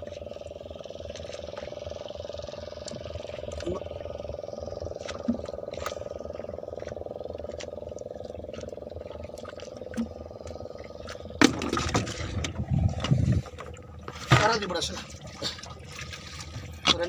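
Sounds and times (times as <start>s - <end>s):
pulsing low hum: 0.0s - 17.0s.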